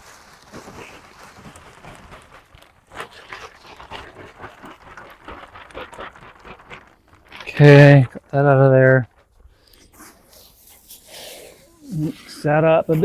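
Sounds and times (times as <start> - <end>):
bag being handled: 0.0 - 13.0
clay granules rustling and clicking: 0.0 - 13.0.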